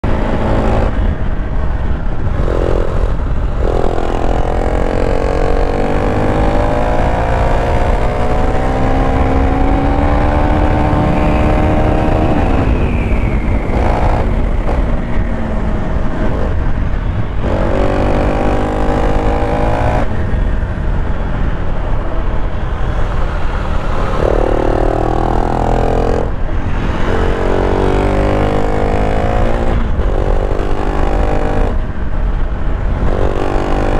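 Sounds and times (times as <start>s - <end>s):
motorcycle engine accelerating: 0.0s - 33.9s
wind noise: 0.0s - 33.9s.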